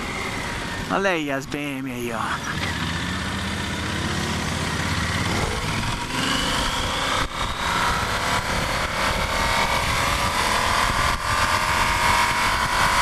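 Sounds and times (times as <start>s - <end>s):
motorcycle engine accelerating hard: 2.2s - 13.0s.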